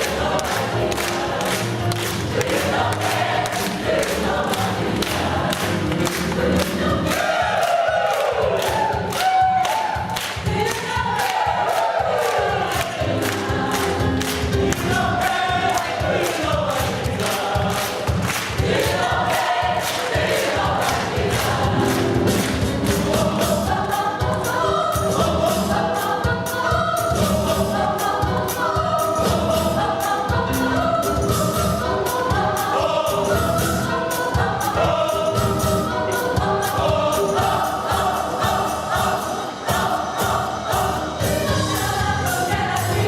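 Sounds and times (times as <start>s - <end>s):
gospel choir singing: 0.0s - 43.0s.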